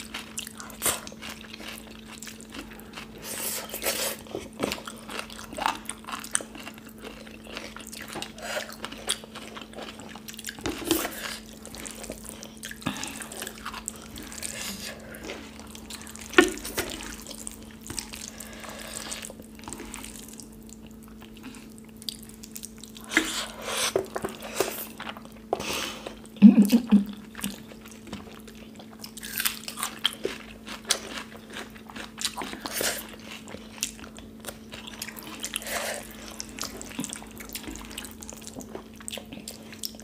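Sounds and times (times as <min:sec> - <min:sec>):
wet chewing and smacking: 0:00.0 - 0:40.0.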